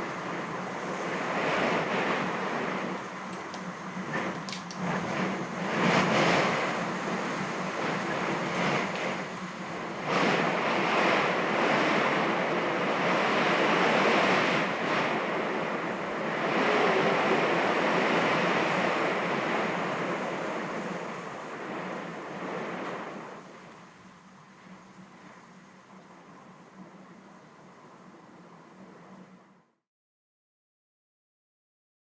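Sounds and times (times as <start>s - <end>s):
wind hissing through window: 0.0s - 29.8s.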